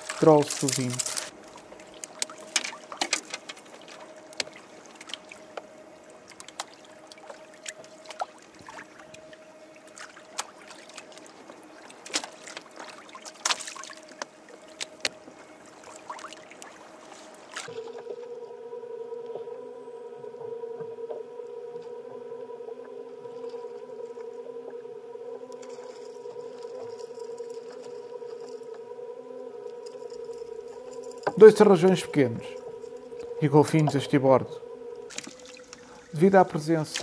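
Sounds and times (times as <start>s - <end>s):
low-pitched electric hum: 0.0s - 37.0s
small electric motor hum: 0.0s - 37.0s.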